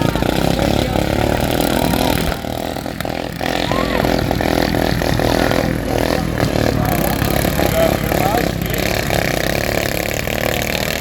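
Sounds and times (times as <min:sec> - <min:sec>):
lawnmower engines revving: 0:00.0 - 0:11.0.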